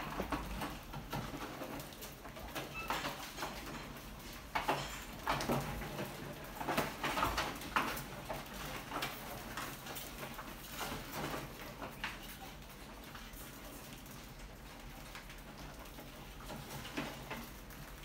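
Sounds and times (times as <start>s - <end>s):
rats scratching on cage: 0.0s - 18.0s.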